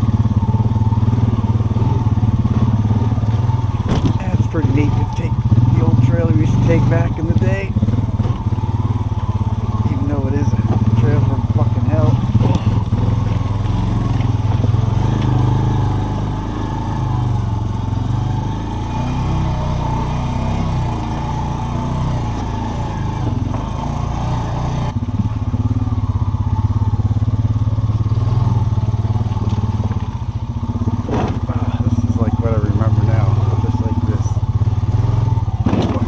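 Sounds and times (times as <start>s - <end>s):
off-road bike engine revving: 0.0s - 36.0s.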